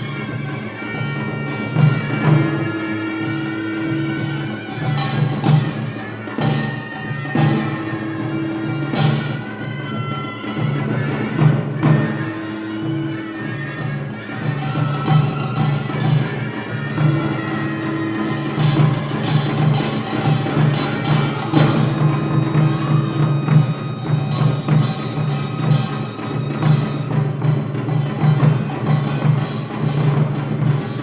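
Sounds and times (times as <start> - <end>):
double-reed wind instrument: 0.0 - 31.0
drums pulsing beat: 0.1 - 31.0.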